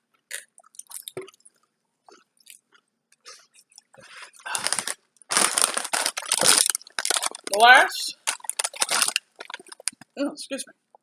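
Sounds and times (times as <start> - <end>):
person chewing crunchy chips: 0.3 - 1.4, 2.1 - 10.2.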